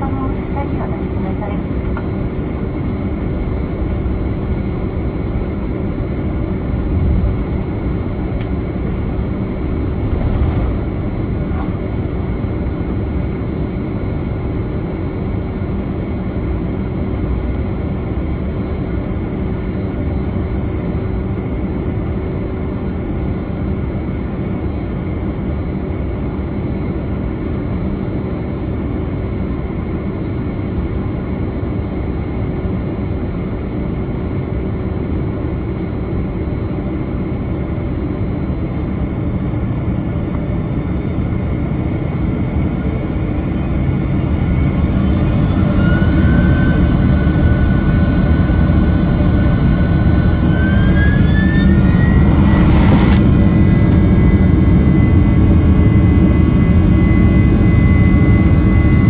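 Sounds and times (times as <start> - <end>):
rising engine whine: 0.0 - 26.6, 34.3 - 59.0
jet engines humming in cabin: 0.0 - 59.0.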